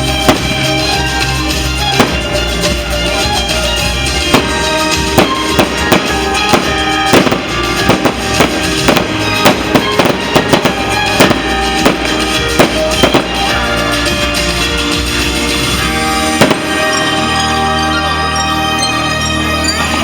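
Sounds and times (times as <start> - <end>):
fireworks banging: 0.0 - 20.0
loud show music: 0.0 - 20.0.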